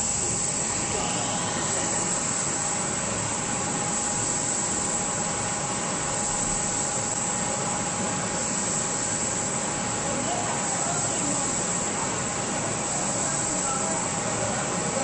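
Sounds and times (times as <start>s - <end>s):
machinery hiss and hum: 0.0s - 15.0s.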